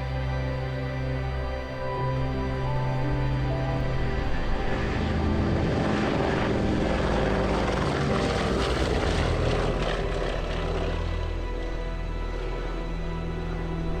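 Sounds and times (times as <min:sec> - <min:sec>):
propeller aircraft engines running: 0:00.0 - 0:14.0.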